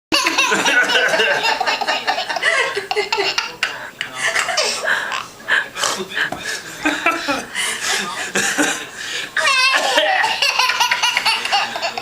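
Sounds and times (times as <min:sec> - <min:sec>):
people laughing: 0:00.1 - 0:12.0.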